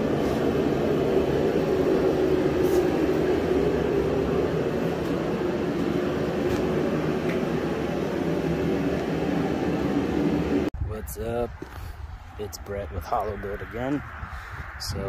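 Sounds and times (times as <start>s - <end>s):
low mechanical hum: 0.0s - 14.3s.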